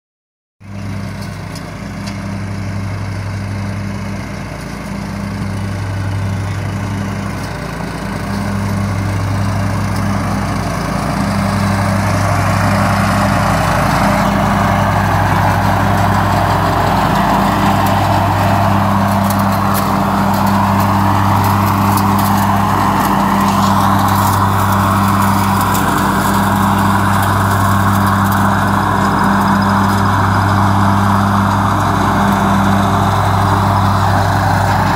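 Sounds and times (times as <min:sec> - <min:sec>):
lawn tractor engine running: 0:00.6 - 0:34.9.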